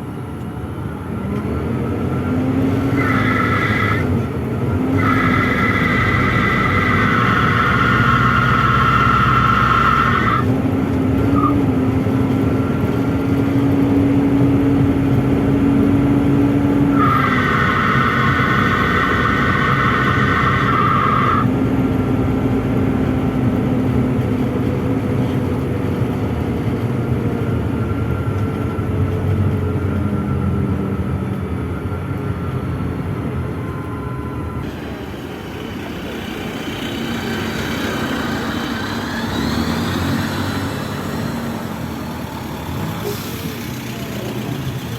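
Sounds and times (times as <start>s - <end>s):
bus engine and road drone: 0.0s - 44.9s.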